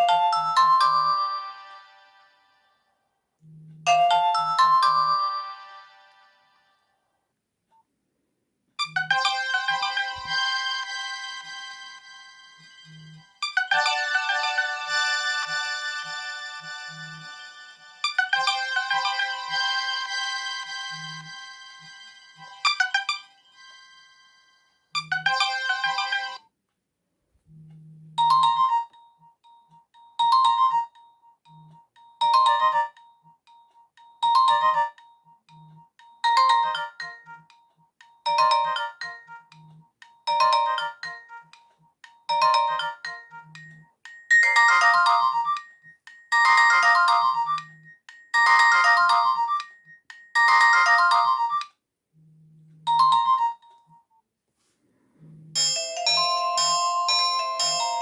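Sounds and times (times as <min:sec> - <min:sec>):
mobile phone ringtone melody: 0:00.0 - 0:02.4, 0:03.9 - 0:06.6, 0:08.8 - 0:26.4, 0:28.2 - 0:51.7, 0:52.9 - 0:54.1, 0:55.6 - 0:58.0.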